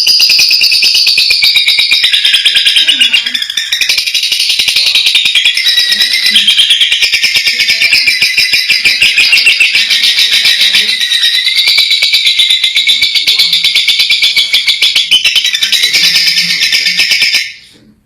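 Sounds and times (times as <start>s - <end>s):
lovebird high-pitched chatter: 0.0s - 17.7s.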